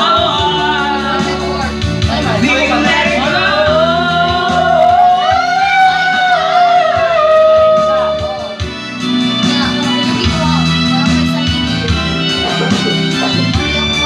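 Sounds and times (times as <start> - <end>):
karaoke backing music: 0.0 - 14.0.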